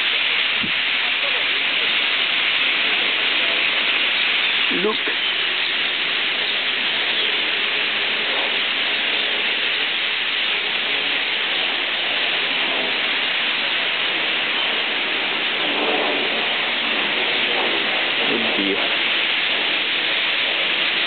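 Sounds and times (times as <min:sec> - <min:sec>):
starling flock chattering: 0:00.0 - 0:21.0.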